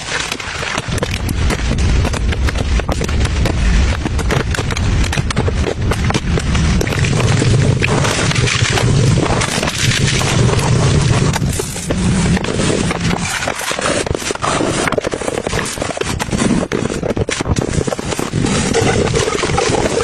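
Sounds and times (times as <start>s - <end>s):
sponge crackling and scraping: 0.0s - 20.0s.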